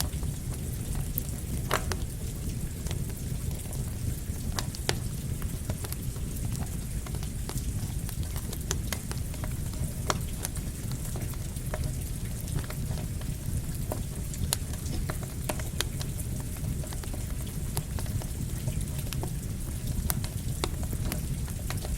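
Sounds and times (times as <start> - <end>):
campfire crackling and popping: 0.0 - 21.9
rain falling: 0.0 - 21.9.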